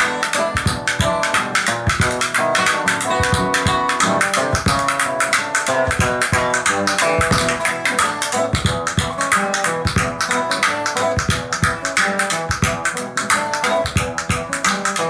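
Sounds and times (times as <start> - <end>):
steady drum beat: 0.0 - 14.7
plucked guitar: 0.0 - 15.0.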